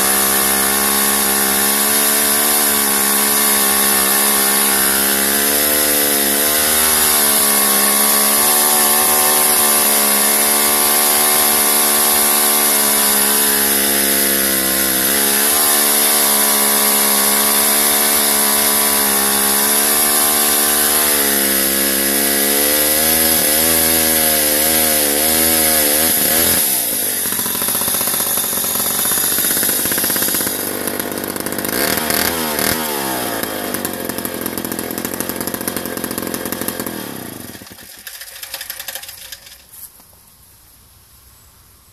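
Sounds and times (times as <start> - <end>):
chainsaw cutting log: 0.0 - 40.1.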